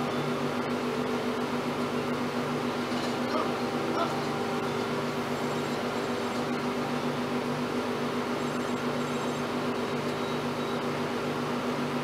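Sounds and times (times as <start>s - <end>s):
low tone cutting in and out: 0.0s - 11.3s
steady mechanical hum: 0.0s - 12.0s.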